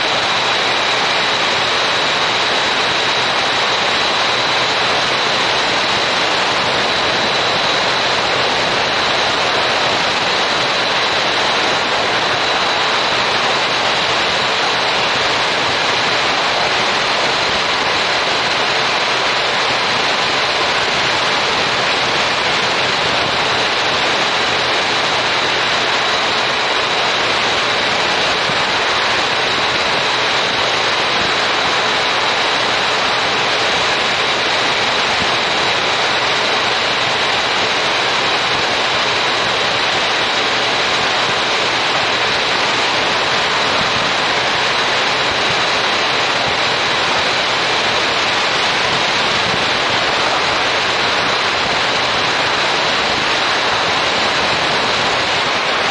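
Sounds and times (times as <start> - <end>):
wind rushing over camera: 0.0 - 55.9.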